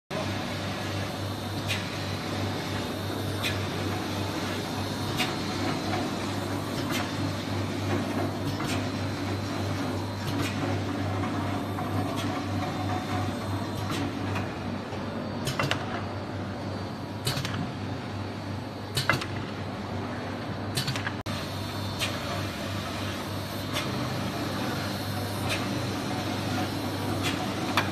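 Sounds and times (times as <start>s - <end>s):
machine motor hum: 0.1s - 27.9s.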